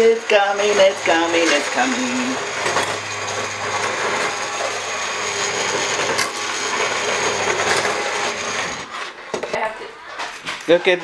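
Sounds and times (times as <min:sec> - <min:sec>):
electric blender running: 0:00.0 - 0:09.1.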